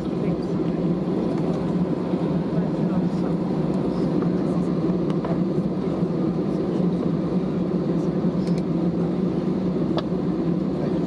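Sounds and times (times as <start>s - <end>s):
airplane cabin low rumble: 0.0s - 11.0s.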